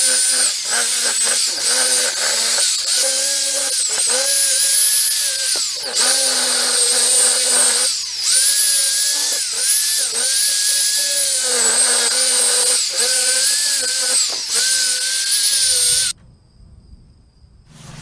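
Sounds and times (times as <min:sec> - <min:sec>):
angle grinder polishing metal: 0:00.0 - 0:16.2.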